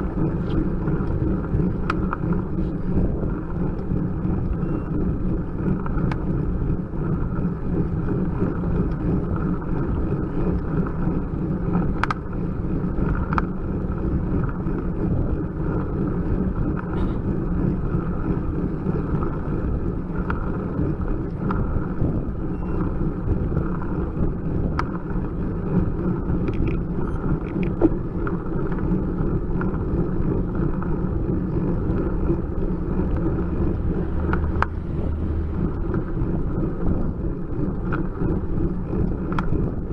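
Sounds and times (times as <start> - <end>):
road rumble: 0.0 - 39.9
wind on microphone: 0.0 - 39.9.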